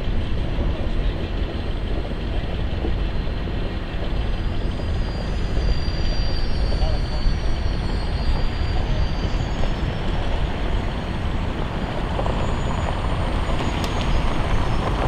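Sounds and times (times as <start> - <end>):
faint high whine: 0.0 - 15.0
train rumbling by: 0.0 - 15.0.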